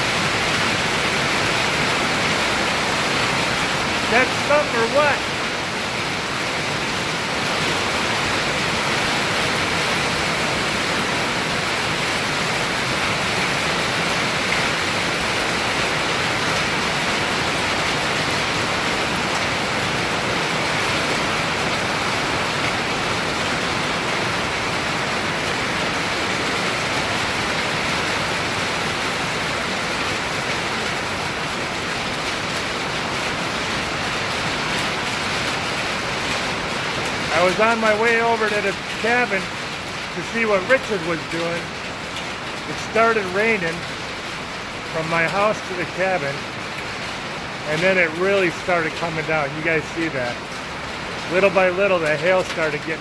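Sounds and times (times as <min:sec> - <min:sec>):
heavy rain and hail: 0:00.0 - 0:53.0.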